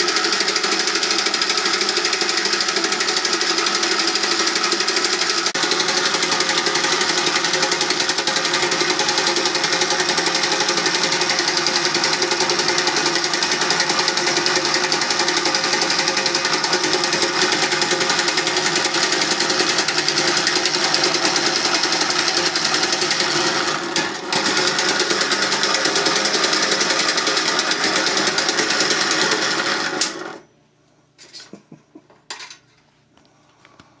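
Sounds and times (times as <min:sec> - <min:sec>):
toy boat motor rattling: 0:00.0 - 0:30.1.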